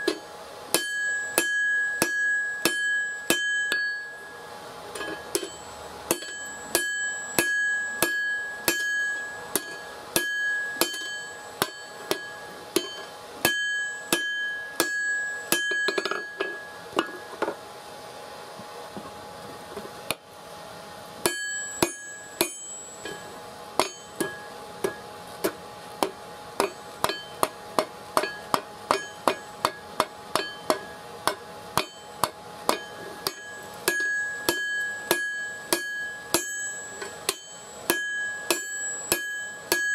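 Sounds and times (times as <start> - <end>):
anvil ringing: 0.0 - 17.3, 21.2 - 25.0, 26.6 - 27.6, 28.2 - 39.9
hammer blows on hot steel: 0.0 - 17.4, 21.2 - 39.9.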